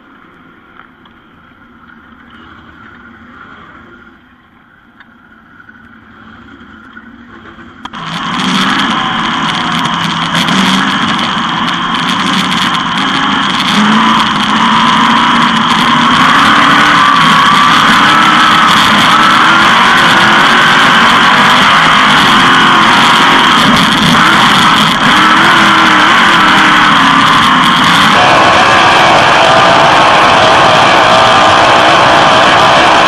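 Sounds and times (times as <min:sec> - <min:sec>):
race car engine running hard: 0:02.0 - 0:33.0.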